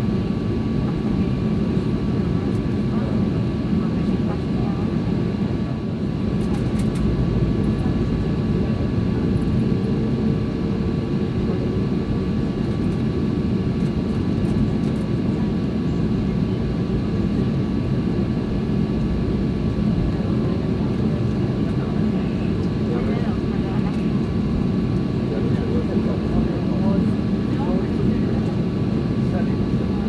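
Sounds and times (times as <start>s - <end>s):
faint engine whining tones: 0.0s - 30.0s
low aircraft cabin rumble: 0.0s - 30.0s.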